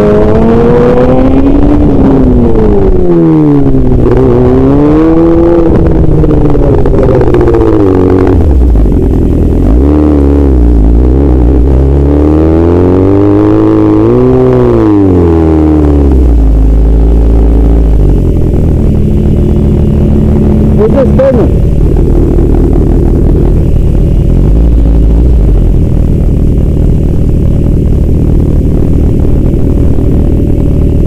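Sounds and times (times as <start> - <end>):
heavy low rumble: 0.0 - 31.0
motorcycle engine revving: 0.0 - 31.0.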